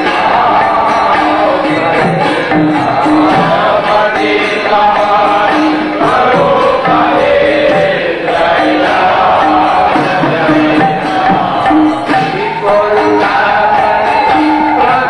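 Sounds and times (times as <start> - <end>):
drum beat: 0.0 - 15.0
group singing into microphone: 0.0 - 15.0
hand cymbals: 0.0 - 15.0.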